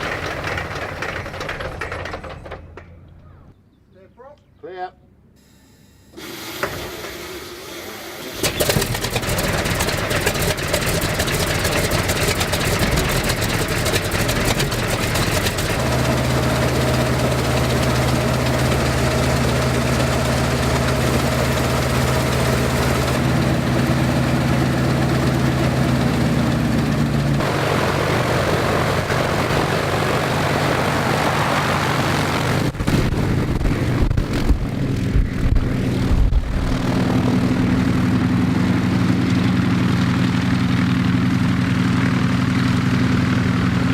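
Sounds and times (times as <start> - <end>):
aircraft radial engine running: 0.0 - 3.4, 6.6 - 43.9.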